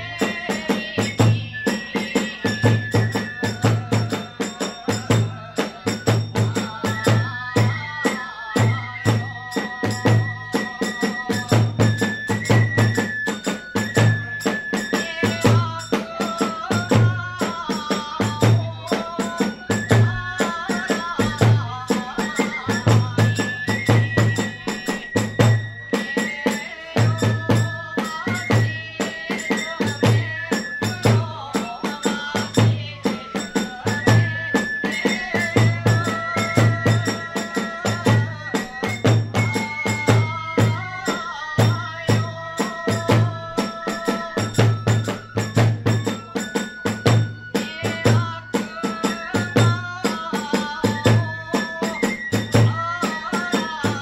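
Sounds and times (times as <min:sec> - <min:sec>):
bamboo flute melody: 0:00.0 - 0:17.3, 0:18.0 - 0:54.0.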